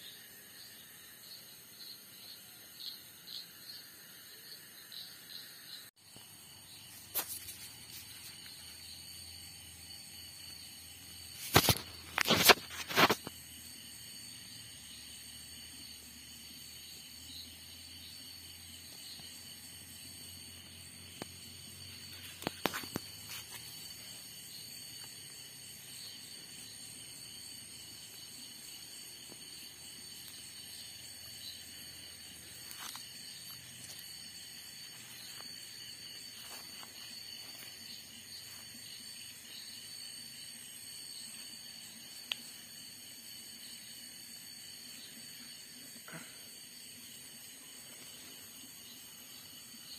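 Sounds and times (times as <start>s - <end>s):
night insects chirring: 0.0s - 49.9s.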